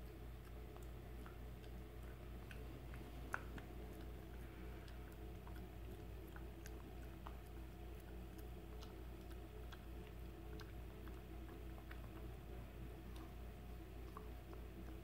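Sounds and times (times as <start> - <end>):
puppy gnawing chew stick: 0.0 - 15.0.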